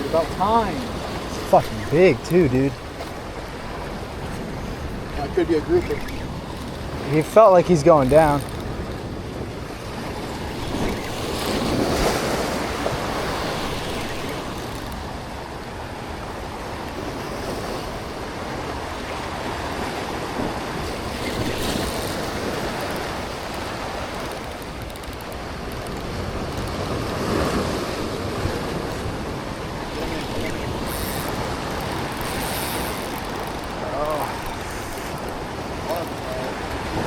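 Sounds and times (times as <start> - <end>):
ocean waves and surf: 0.0 - 37.0
wind noise on microphone: 0.0 - 37.0.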